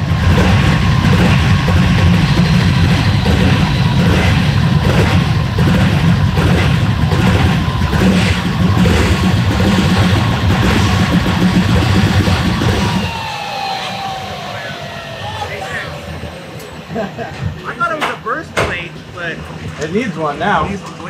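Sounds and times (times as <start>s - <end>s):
turbo high whine: 0.0s - 20.7s
boat engine exhaust drone: 0.0s - 21.0s.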